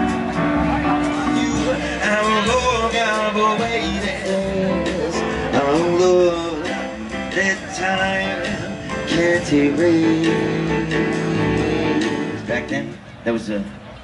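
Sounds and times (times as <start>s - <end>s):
guitar backing: 0.0s - 13.2s.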